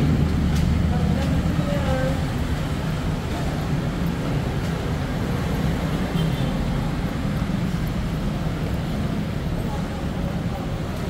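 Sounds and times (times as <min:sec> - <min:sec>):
low rumble of station concourse: 0:00.0 - 0:11.0.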